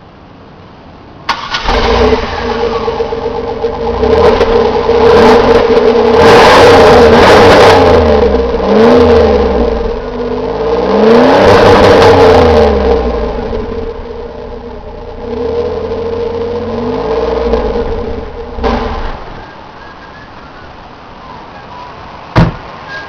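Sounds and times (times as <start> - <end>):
car engine starting and revving: 1.2 - 23.0.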